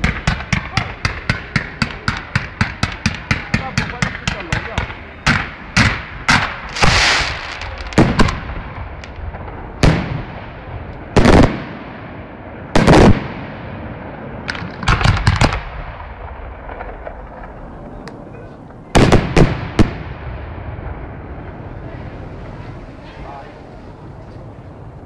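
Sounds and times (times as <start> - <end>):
fireworks banging: 0.0 - 25.0
fireworks crackling: 0.0 - 25.0.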